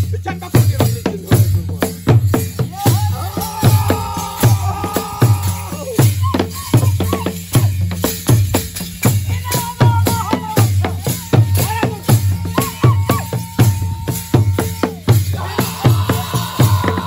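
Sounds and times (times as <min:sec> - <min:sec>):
drums beating a driving rhythm: 0:00.0 - 0:17.0
rattling percussion: 0:00.0 - 0:17.0.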